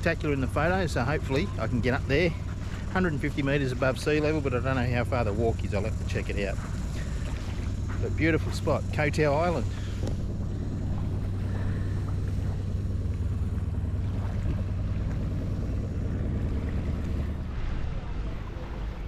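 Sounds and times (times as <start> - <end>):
motorboat engine droning: 0.0 - 19.0
water noise: 0.0 - 19.0
wind: 0.0 - 19.0.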